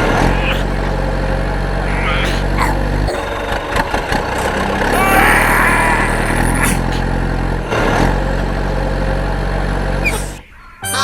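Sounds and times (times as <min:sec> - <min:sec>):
small engine humming: 0:00.0 - 0:10.8.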